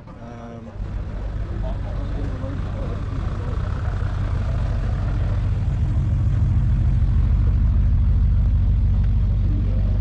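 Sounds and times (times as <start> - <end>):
large engine running at low revs: 0.0 - 10.0.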